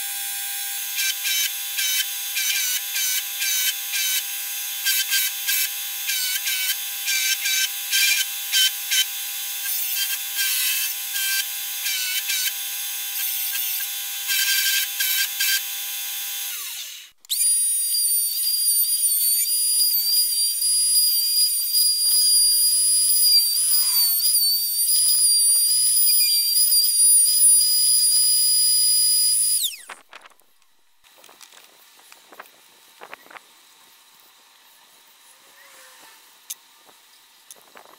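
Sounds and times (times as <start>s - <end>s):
belt grinder sanding wood: 0.0s - 30.4s
router whining: 0.0s - 37.9s.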